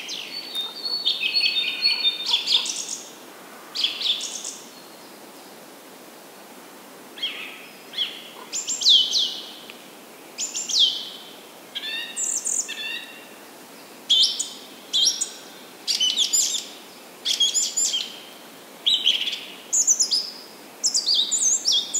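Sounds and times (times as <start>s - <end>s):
forest birds chirping and whistling: 0.0s - 3.2s, 3.8s - 5.2s, 7.2s - 9.7s, 10.4s - 21.9s
faint steady hiss: 0.0s - 21.9s.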